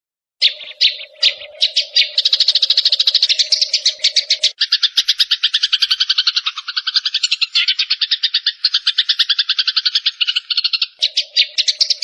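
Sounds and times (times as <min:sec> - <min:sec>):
songbird chattering song: 0:00.4 - 0:12.0.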